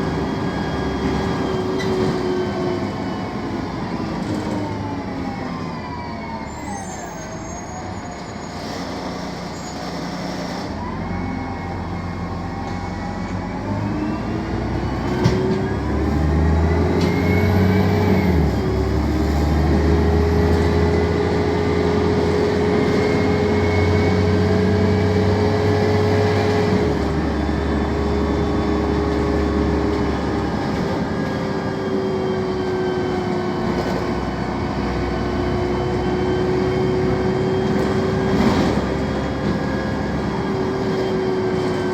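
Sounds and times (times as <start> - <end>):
bus engine and gearbox whining: 0.0 - 41.9.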